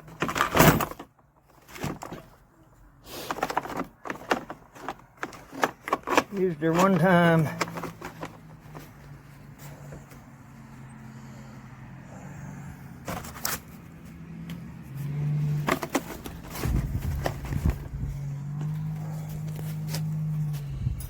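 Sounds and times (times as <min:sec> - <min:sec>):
knocks and clatter of handling: 0:00.0 - 0:10.3, 0:13.0 - 0:20.7.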